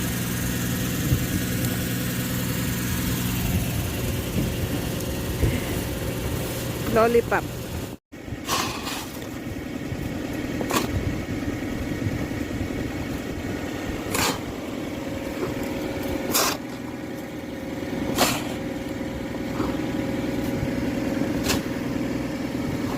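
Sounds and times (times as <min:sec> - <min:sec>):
engine running steadily: 0:00.0 - 0:22.9.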